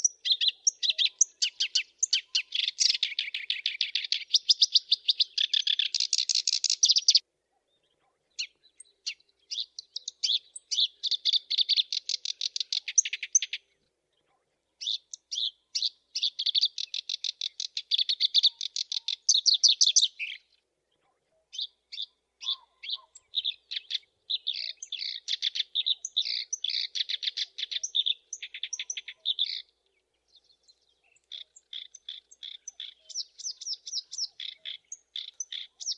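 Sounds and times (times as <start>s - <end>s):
warbler singing: 0.0s - 35.9s.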